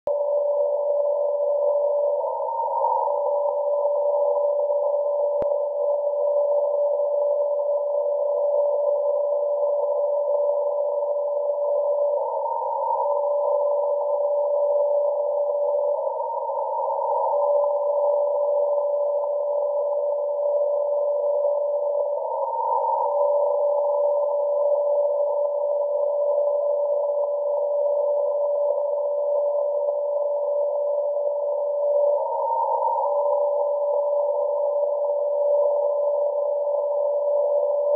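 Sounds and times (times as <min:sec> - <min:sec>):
steady radio tone: 0:00.1 - 0:37.9.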